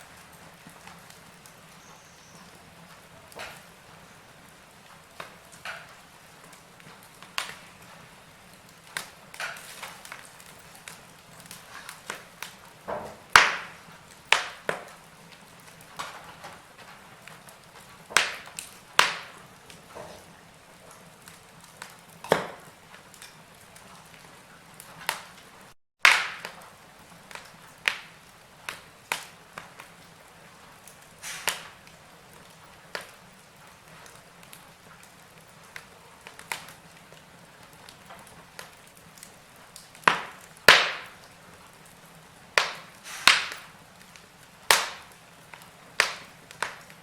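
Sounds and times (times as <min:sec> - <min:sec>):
faint steady hiss: 0:00.0 - 0:47.0
wood fire crackling: 0:00.0 - 0:47.0.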